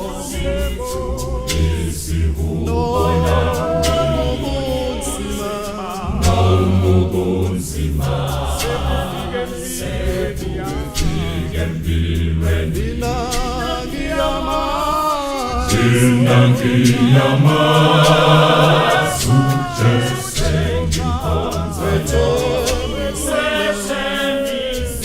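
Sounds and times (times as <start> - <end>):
sustained bass line: 0.0 - 5.4, 6.0 - 14.9, 15.6 - 23.4
voices singing with vibrato: 0.0 - 25.0.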